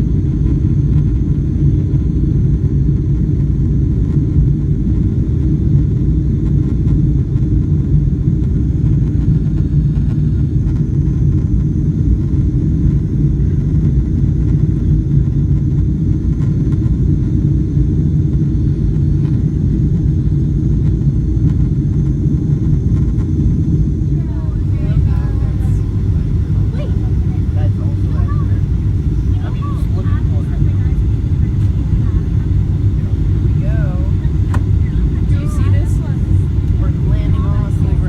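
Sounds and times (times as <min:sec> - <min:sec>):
airplane cabin rumble: 0:00.0 - 0:38.0.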